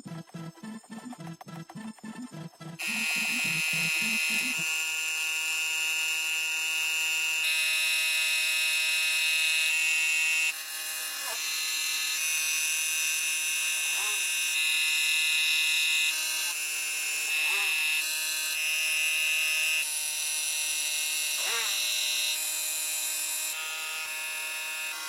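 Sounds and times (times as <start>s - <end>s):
power tool motor whine: 2.7s - 25.0s.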